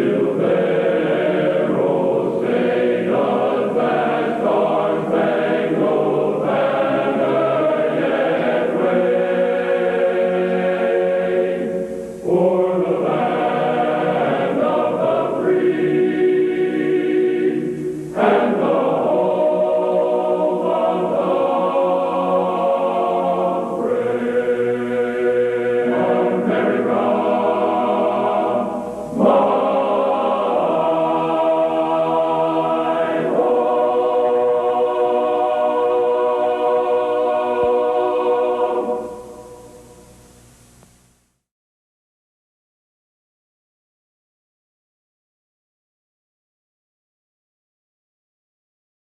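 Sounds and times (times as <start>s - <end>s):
choir singing sustained chords: 0.0s - 40.5s.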